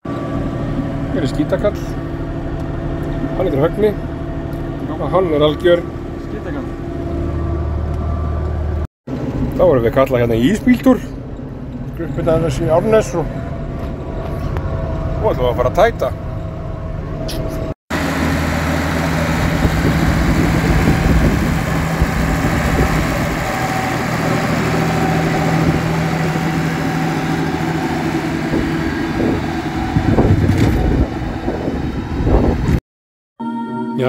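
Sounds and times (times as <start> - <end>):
tractor diesel engine running: 0.0 - 32.8.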